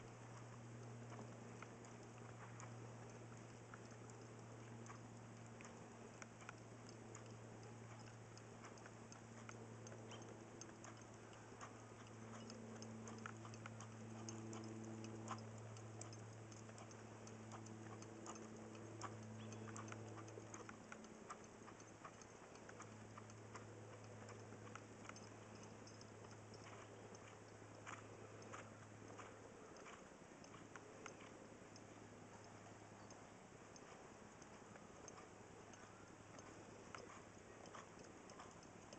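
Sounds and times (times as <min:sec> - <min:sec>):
faint low hum: 0:00.0 - 0:38.9
faint ticks: 0:00.0 - 0:38.9.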